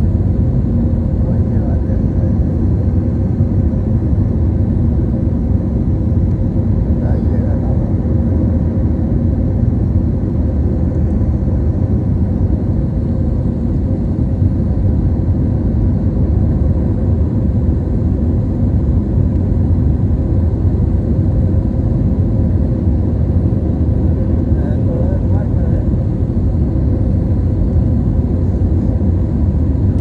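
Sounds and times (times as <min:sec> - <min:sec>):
airliner engines and airflow rumble: 0:00.0 - 0:30.0.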